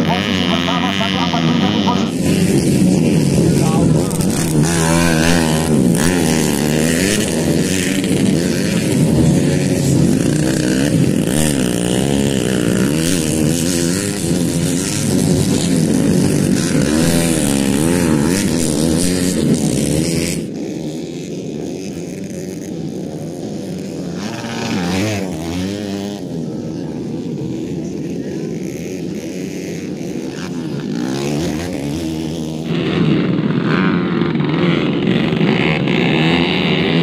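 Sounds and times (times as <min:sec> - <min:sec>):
racing motorcycle engines revving: 0:00.0 - 0:37.0.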